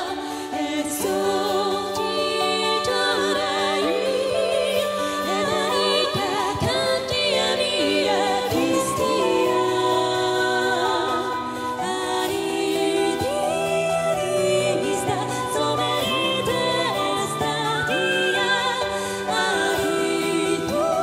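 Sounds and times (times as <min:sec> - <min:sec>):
keyboard and band accompaniment: 0:00.0 - 0:21.0
women singing in harmony: 0:00.0 - 0:21.0.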